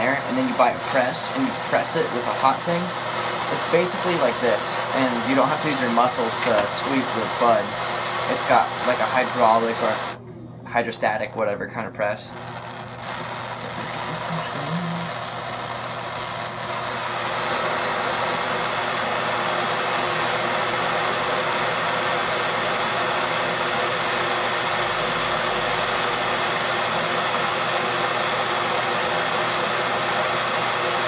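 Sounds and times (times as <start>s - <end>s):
torch flame hissing: 0.0s - 10.2s, 11.9s - 31.0s.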